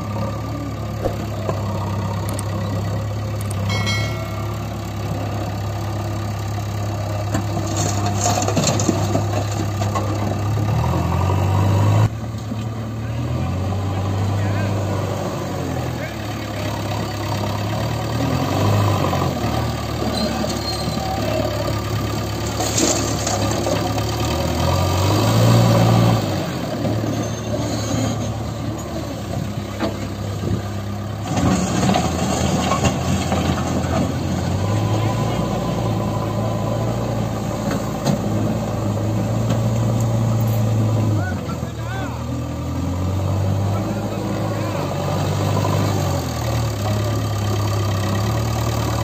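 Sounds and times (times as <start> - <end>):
diesel engine revving: 0.0 - 49.0.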